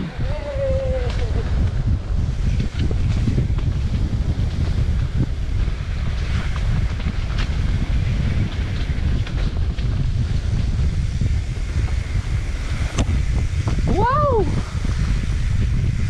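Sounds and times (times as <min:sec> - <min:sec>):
tyres rumbling on dirt trail: 0:00.0 - 0:16.0
wind buffeting microphone: 0:00.0 - 0:16.0
bike clicks and rattles: 0:00.1 - 0:16.0.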